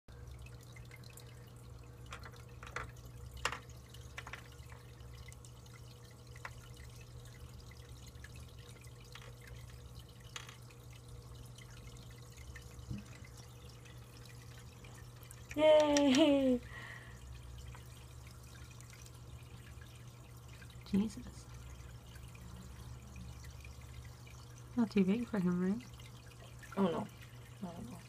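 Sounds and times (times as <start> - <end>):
low equipment hum: 0.1 - 28.0
water dripping and trickling: 0.1 - 28.0.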